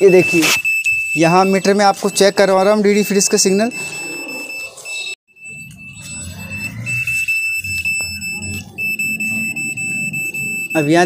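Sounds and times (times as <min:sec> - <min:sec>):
steady high meter beep: 0:00.0 - 0:11.0.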